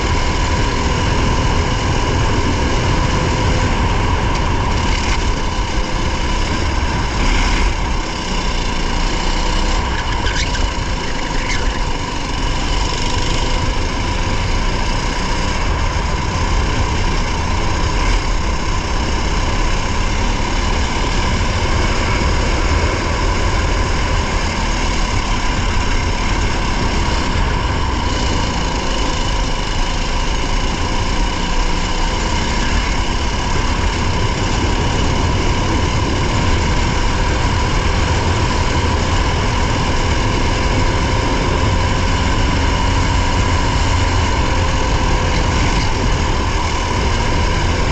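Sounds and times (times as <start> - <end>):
race car engine droning: 0.0 - 47.9.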